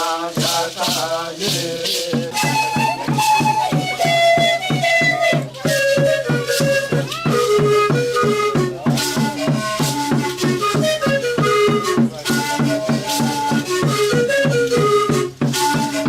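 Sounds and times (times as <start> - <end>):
pan flute melody: 0.0 - 16.0
rattle shaken: 0.0 - 16.0
steady beat: 0.0 - 16.0.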